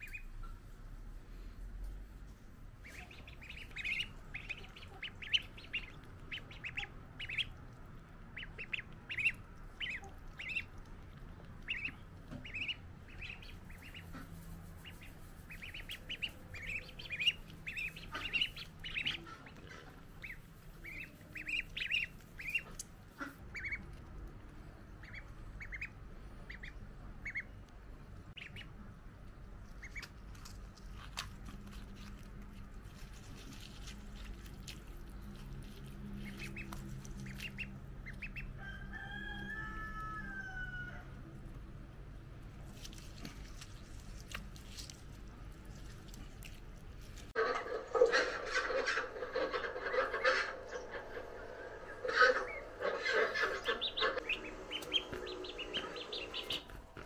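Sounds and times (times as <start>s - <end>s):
ducklings peeping: 0.0s - 0.7s, 2.8s - 41.6s, 42.4s - 57.0s.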